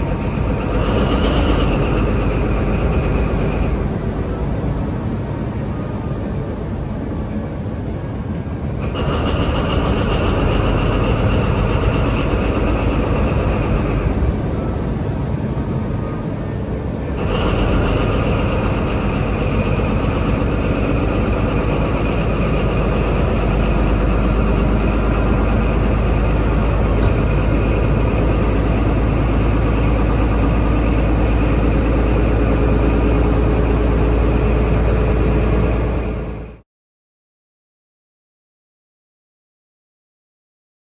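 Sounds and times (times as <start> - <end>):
diesel engine running: 0.0 - 36.6.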